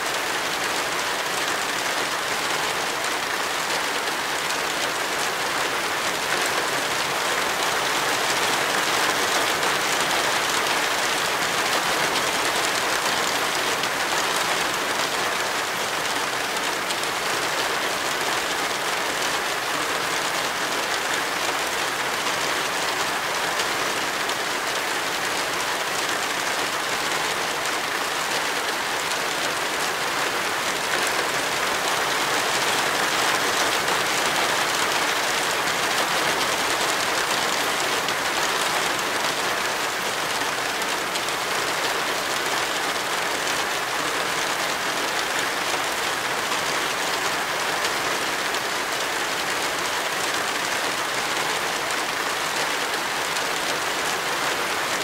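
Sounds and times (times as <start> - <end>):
heavy rain on a car: 0.0 - 55.0.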